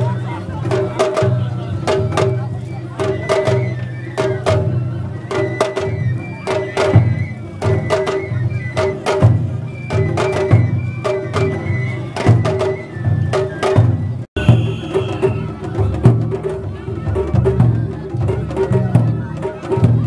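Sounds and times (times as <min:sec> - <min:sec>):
large taiko drum beating: 0:00.0 - 0:20.0.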